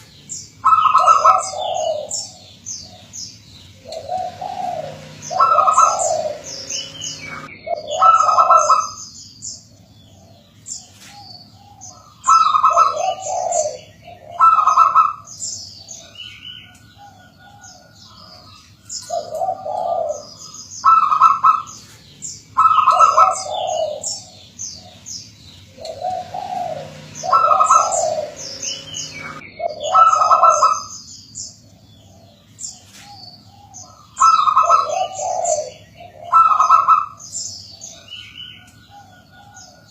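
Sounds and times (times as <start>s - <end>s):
high bird chirping: 0.0s - 39.9s
dove cooing: 0.6s - 9.0s, 9.8s - 22.0s, 22.6s - 31.0s, 31.6s - 39.9s.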